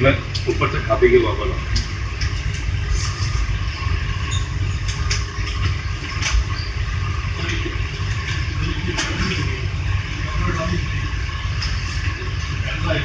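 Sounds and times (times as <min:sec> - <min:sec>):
cooling fans and air conditioning: 0:00.0 - 0:13.0.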